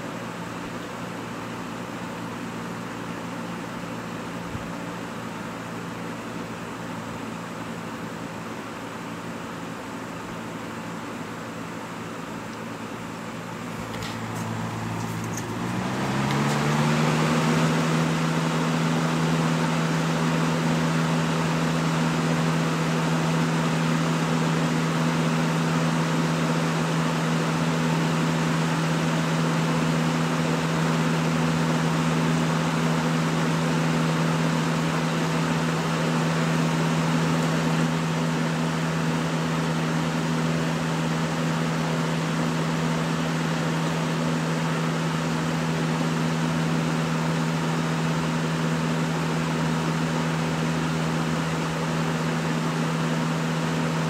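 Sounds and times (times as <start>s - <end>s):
box fan running: 0.0s - 54.0s.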